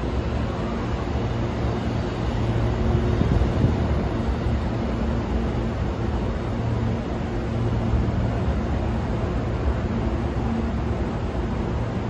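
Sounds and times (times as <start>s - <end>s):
electric train rumbling on rails: 0.0s - 12.0s
train motor hum: 0.0s - 12.0s.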